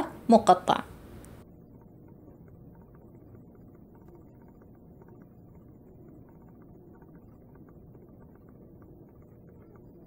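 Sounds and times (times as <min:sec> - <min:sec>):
faint low background hiss: 0:00.0 - 0:10.0.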